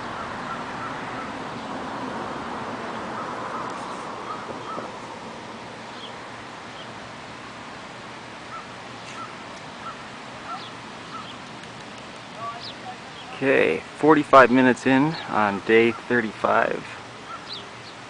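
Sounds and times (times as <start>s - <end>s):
bird calling: 0.0s - 7.5s, 8.4s - 13.4s, 14.4s - 18.0s
steady outdoor hiss: 0.0s - 18.0s.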